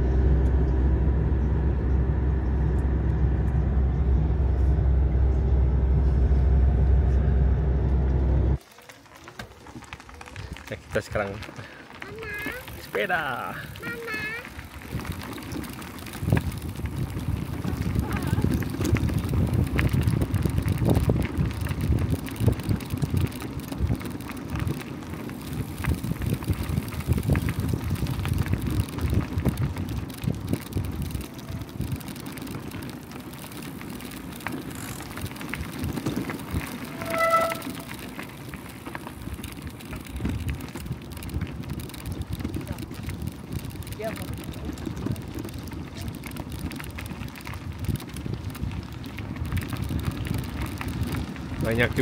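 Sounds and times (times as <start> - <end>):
gravel ticks and bike rattles: 0.0 - 52.0
wind and tyres rumble: 0.0 - 52.0.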